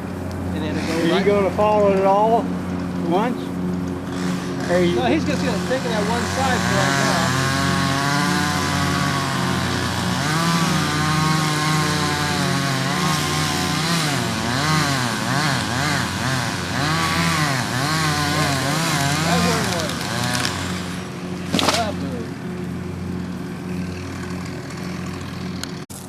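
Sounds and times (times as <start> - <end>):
chainsaw cutting tree trunk: 0.6 - 3.1, 3.7 - 25.8.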